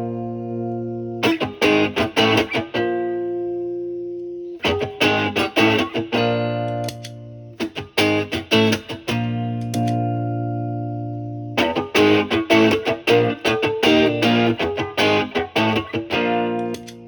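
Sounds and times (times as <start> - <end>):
overdriven electric guitar: 0.0 - 17.0.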